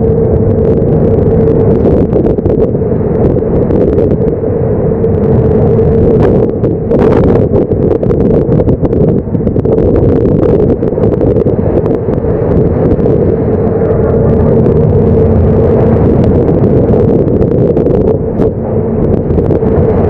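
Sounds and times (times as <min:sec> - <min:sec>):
machinery hum: 0:00.0 - 0:20.0
wind rumble on microphone: 0:00.0 - 0:20.0.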